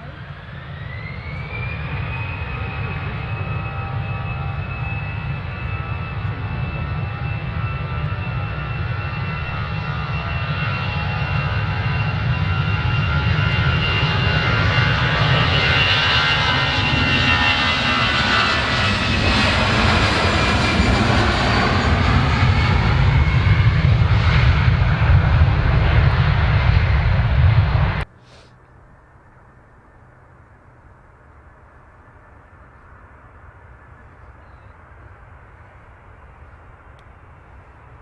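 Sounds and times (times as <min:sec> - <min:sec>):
jet airliner passing: 0:00.0 - 0:38.0.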